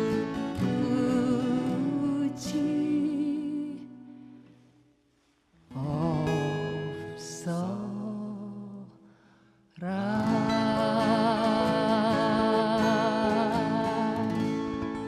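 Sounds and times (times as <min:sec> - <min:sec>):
woman singing folk song: 0:00.0 - 0:04.7, 0:05.6 - 0:15.0
acoustic guitars: 0:00.0 - 0:15.0.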